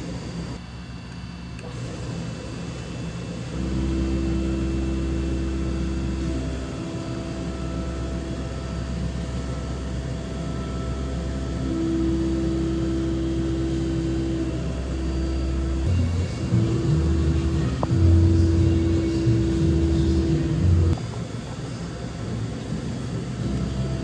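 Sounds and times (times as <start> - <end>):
milling machine humming: 1.7 - 24.0.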